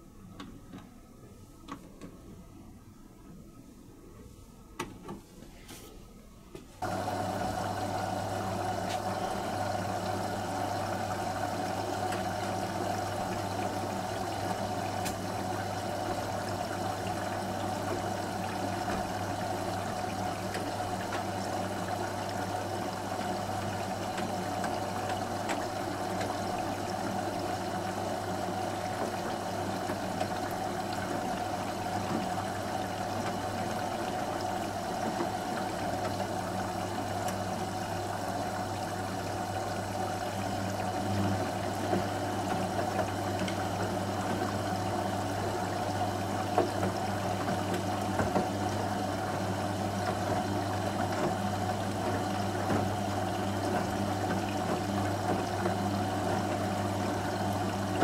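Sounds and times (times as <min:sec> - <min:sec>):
steady machine hum: 0:06.8 - 0:58.0
water rushing into washing machine: 0:06.8 - 0:58.0.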